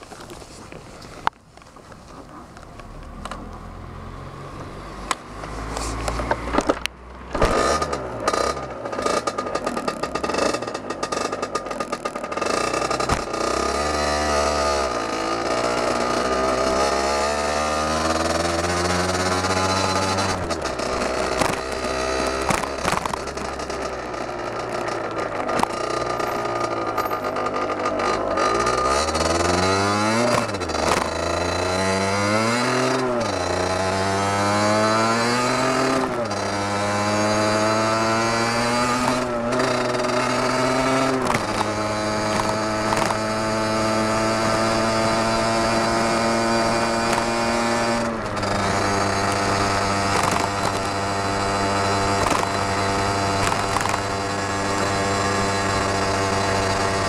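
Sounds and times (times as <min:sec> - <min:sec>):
two-stroke motorcycle engine revving: 0:02.2 - 0:57.0.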